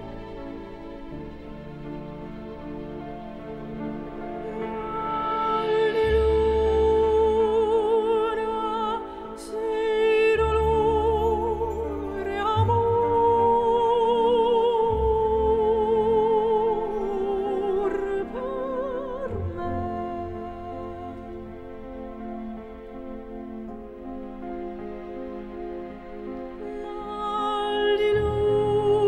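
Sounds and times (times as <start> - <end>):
slow melody with vibrato: 0.0 - 29.0.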